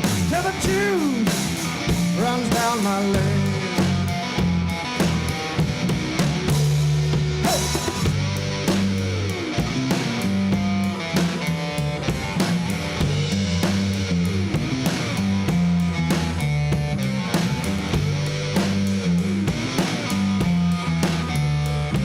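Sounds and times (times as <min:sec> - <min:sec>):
bass notes: 0:00.0 - 0:22.0
drum kit beat: 0:00.0 - 0:22.0
slide guitar: 0:00.0 - 0:22.0.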